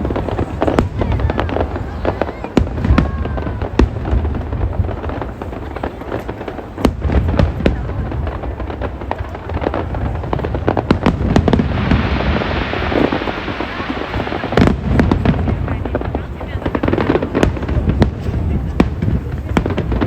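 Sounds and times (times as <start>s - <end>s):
fireworks bangs and crackles: 0.0s - 20.0s
hissing rush: 0.0s - 20.0s.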